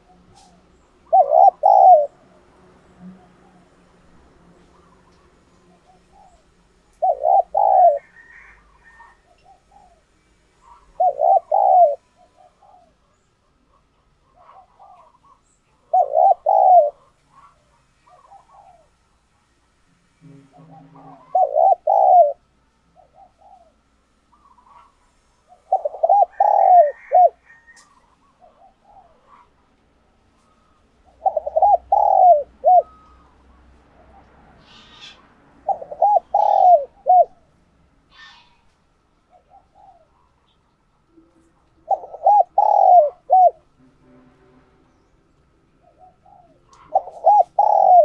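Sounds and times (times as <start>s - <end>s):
dove cooing: 0.0s - 19.0s, 20.4s - 38.6s, 39.3s - 43.8s, 45.7s - 48.0s.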